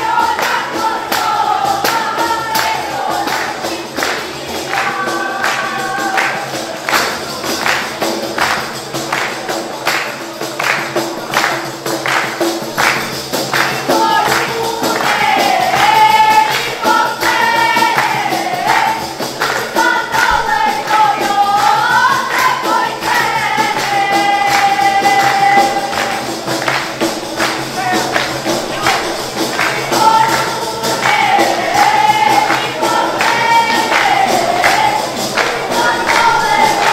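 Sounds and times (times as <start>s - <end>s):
frame drums beating: 0.0s - 36.9s.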